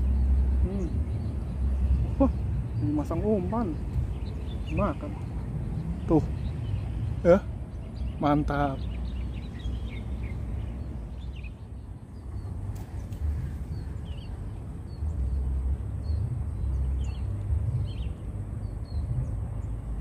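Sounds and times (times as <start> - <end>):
low rumble: 0.0 - 8.2, 8.8 - 20.0
small birds chirping: 0.0 - 20.0.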